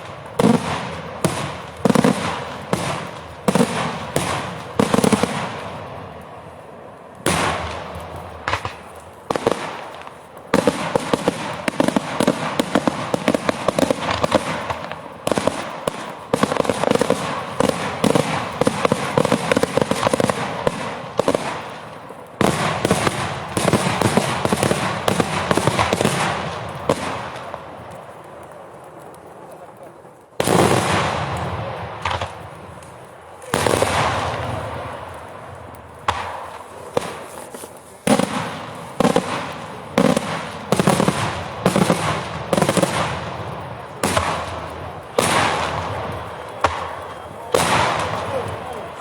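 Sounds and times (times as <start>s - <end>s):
fireworks bangs and crackling: 0.0s - 49.0s.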